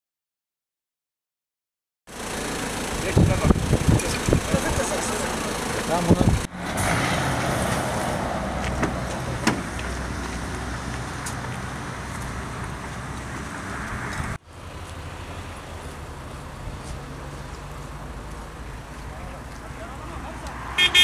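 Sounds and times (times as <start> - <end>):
vehicle engine and road noise: 2.1 - 21.0.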